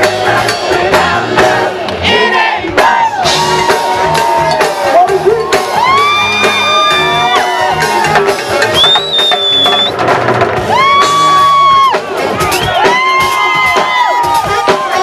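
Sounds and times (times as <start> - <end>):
crowd shouting: 0.0 - 9.9, 10.6 - 15.0
live funk band playing: 0.0 - 15.0.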